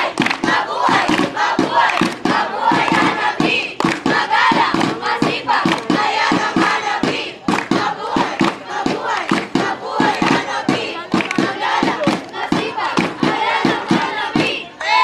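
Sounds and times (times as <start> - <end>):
crowd chanting: 0.0 - 15.0
group clapping in rhythm: 0.0 - 15.0.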